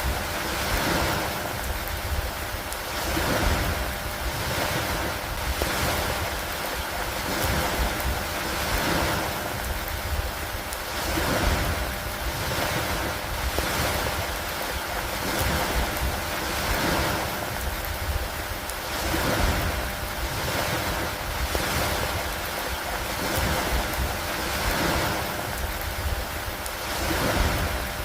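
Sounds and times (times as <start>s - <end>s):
steady rain hiss: 0.0s - 28.0s
wind: 0.0s - 28.0s.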